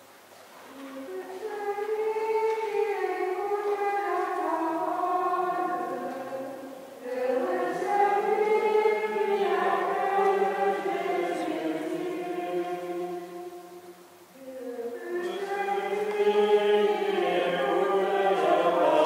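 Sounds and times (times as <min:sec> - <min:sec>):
voices singing a hymn: 0:00.7 - 0:19.0.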